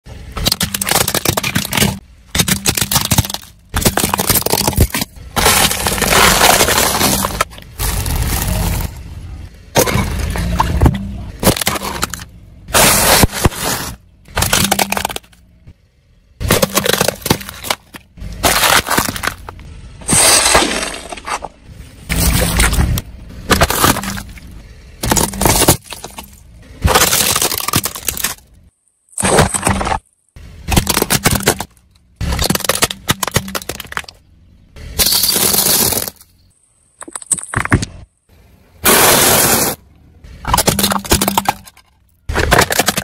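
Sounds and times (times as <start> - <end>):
car tyre crushing objects: 0.1 - 43.0.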